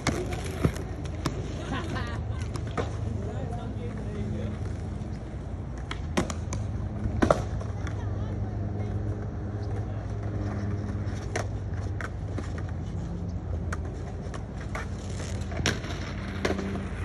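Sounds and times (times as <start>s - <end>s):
skateboards clacking on concrete: 0.0s - 17.0s.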